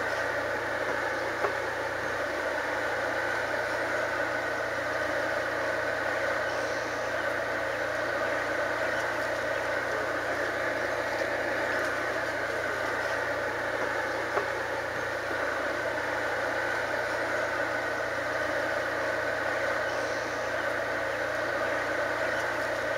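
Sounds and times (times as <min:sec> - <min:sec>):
engine drone: 0:00.0 - 0:22.9.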